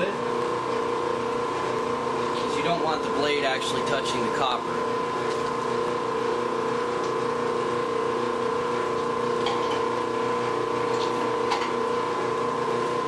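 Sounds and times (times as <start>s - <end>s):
machine motor humming and whining: 0.0s - 13.0s.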